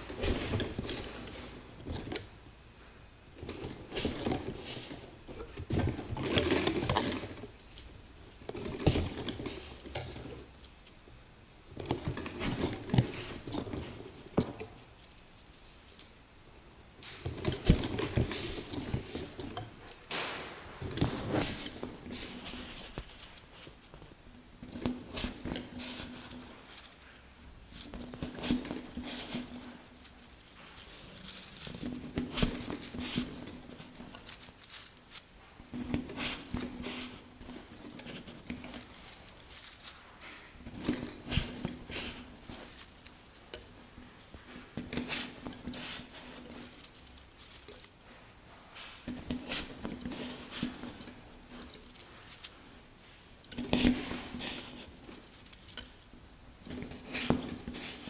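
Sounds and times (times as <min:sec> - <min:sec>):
wooden skewers clicking and tapping: 0:03.4 - 0:11.0, 0:17.0 - 0:48.0, 0:48.8 - 0:52.6, 0:53.4 - 0:58.0.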